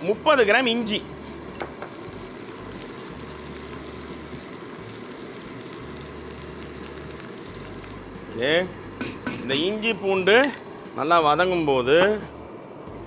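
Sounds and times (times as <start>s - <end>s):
spices sizzling in hot oil: 0.0s - 10.9s.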